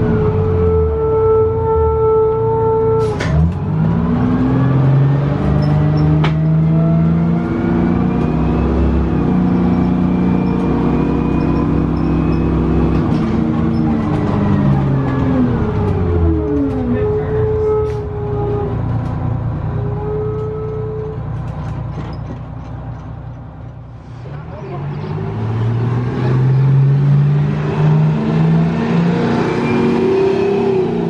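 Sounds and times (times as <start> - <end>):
bus diesel engine under load: 0.0 - 31.0.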